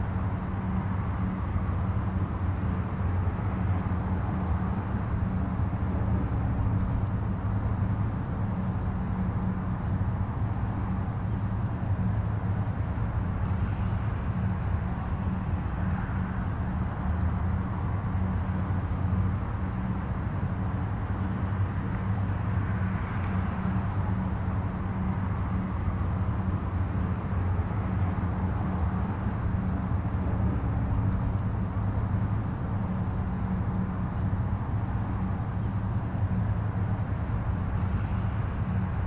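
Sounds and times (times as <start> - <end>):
distant highway traffic: 0.0 - 39.0
tyre noise of passing vehicles: 0.0 - 39.0.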